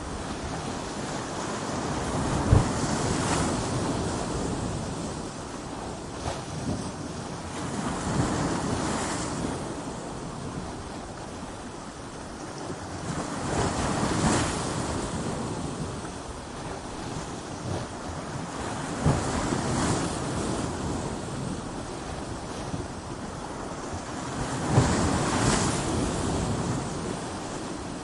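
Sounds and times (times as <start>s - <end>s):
ocean waves crashing against rocks: 0.0s - 28.0s.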